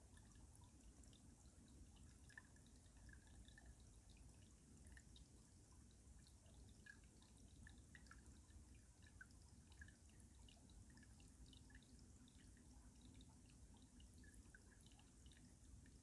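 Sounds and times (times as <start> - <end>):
low rumble of flowing water: 0.0 - 16.0.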